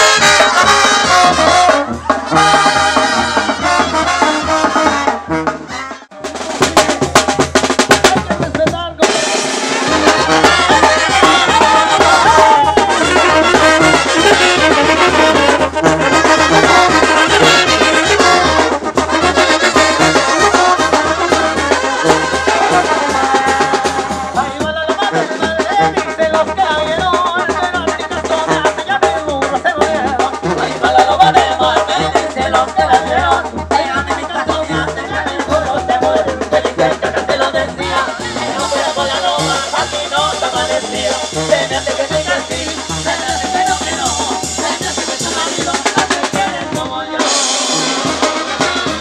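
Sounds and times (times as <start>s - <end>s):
brass band playing: 0.0s - 49.0s
drums and cymbals beat: 0.0s - 49.0s
tuba bass line: 0.0s - 49.0s.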